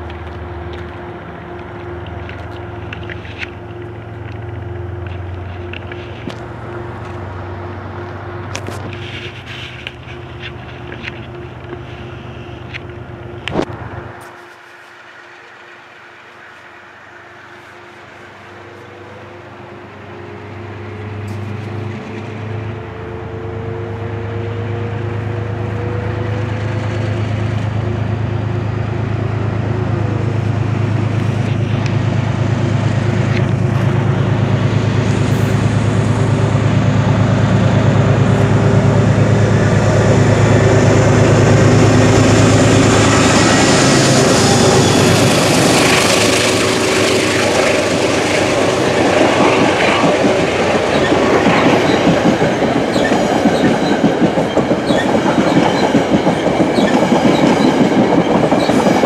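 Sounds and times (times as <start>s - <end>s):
diesel locomotive engine drone: 0.0s - 59.0s
passing coaches rumbling on rails: 0.0s - 59.0s.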